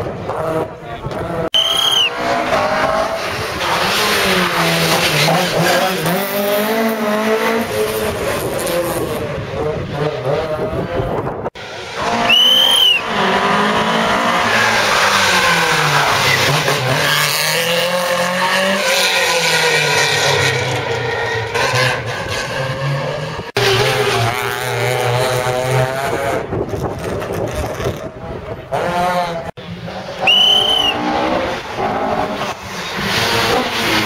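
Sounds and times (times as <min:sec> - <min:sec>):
rally car engines at high revs: 0:00.0 - 0:34.0.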